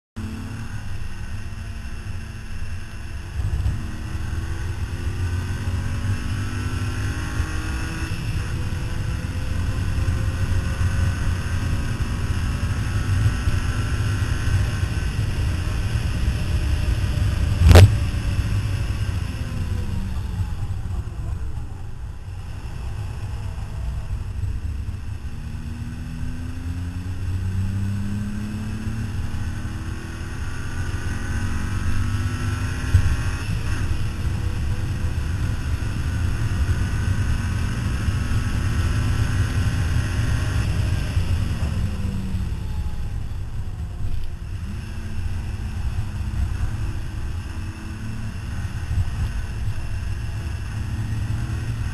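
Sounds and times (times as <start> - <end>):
car engine accelerating: 0.2 - 51.9
road and wind noise: 0.2 - 51.9.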